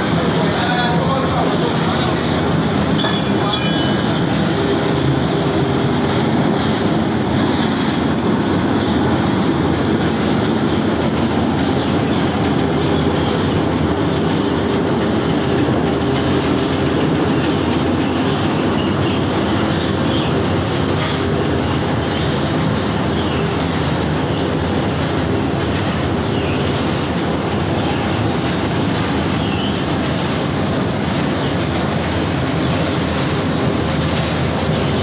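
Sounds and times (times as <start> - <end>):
constant machine hum: 0.0 - 35.0
mill machinery clattering: 0.0 - 35.0.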